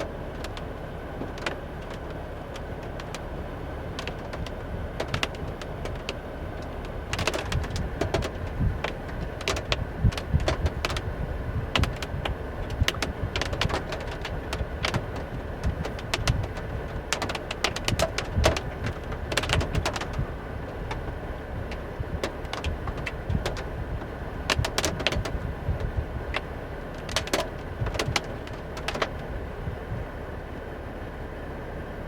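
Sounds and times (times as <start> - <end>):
raindrops tapping: 0.0 - 29.8
gusty wind rumble on microphone: 0.0 - 30.4.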